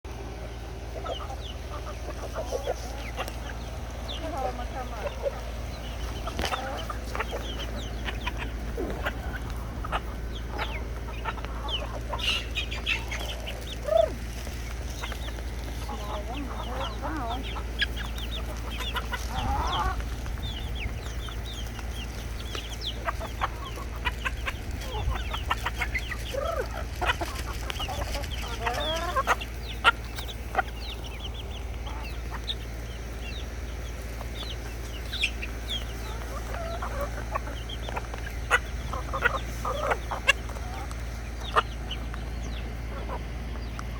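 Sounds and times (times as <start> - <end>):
chickens clucking and cheeping: 0.0 - 43.9
steady low hum: 0.1 - 43.9.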